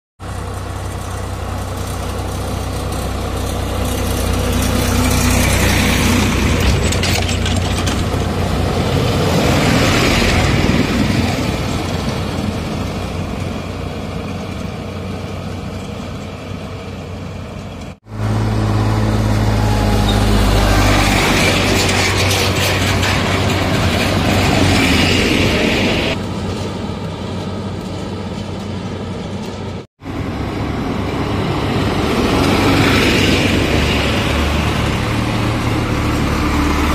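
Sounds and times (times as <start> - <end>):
backhoe engine running: 0.2 - 36.9
diesel engines driving past: 0.2 - 36.9.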